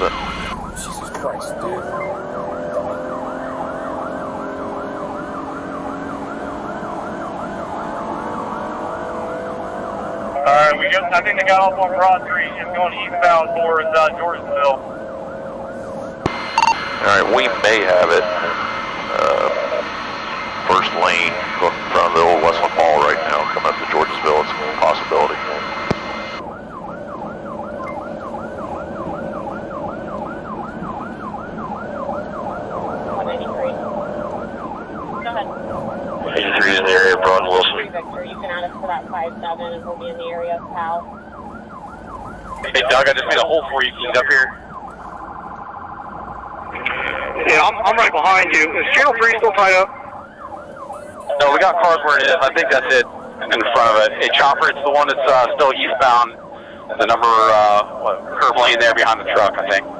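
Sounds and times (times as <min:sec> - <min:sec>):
police siren yelping: 0:00.0 - 0:59.9
road noise: 0:00.0 - 0:59.9.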